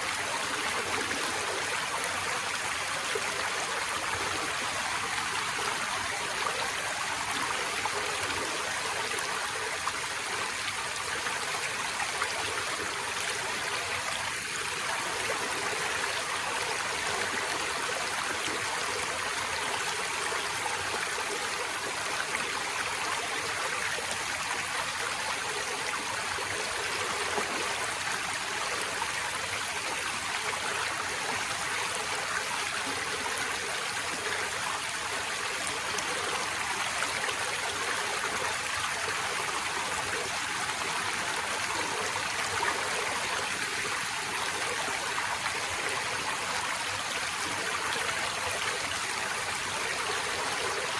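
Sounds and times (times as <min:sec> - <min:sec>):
stream flowing and trickling: 0:00.0 - 0:50.9.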